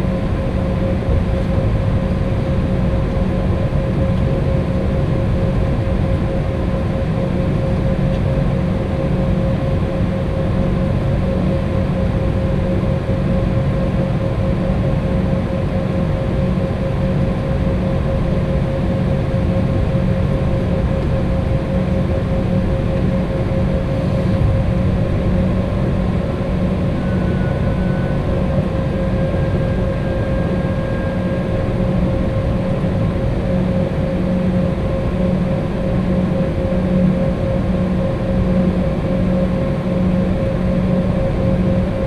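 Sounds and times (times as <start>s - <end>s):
jet engines idling in cabin: 0.0s - 42.0s.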